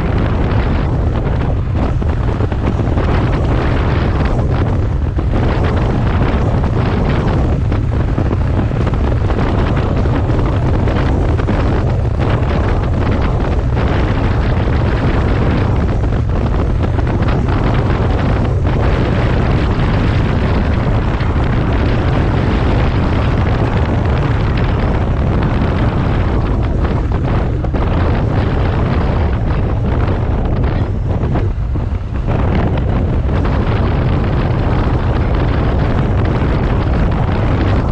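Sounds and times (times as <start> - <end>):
motorcycle engine running: 0.0 - 37.9
wind buffeting microphone: 0.0 - 37.9.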